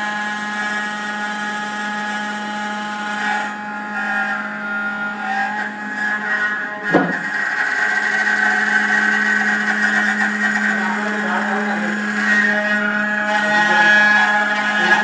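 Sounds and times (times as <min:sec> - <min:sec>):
engraving machine spindle whine: 0:00.0 - 0:15.0.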